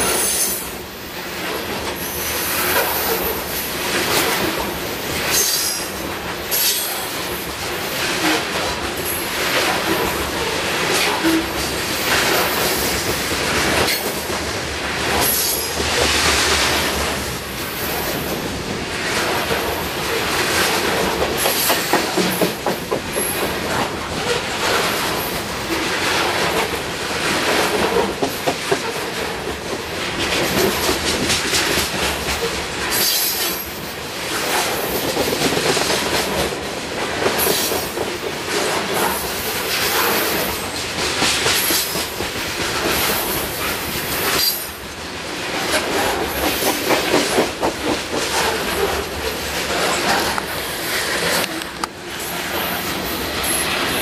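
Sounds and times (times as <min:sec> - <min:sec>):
steel wheels clattering on rail: 0:00.0 - 0:54.0.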